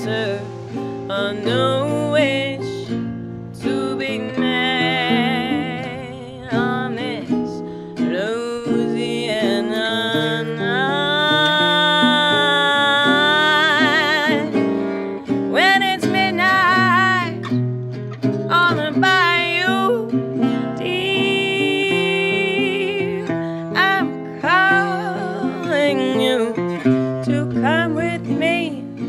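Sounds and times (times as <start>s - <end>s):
woman singing with vibrato: 0.0s - 17.6s, 18.3s - 29.0s
acoustic guitar chords: 0.0s - 29.0s.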